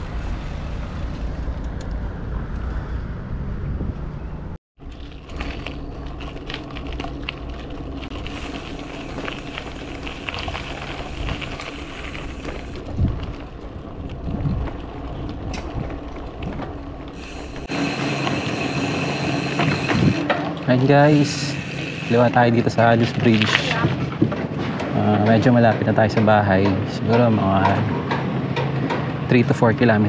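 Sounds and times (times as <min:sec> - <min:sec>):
bicycle tyre road noise: 0:00.0 - 0:30.0.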